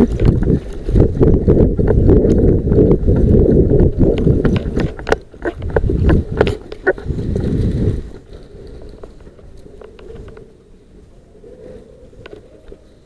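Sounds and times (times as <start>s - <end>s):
microphone handling rumble: 0.0s - 10.6s
wind on microphone: 0.0s - 13.0s.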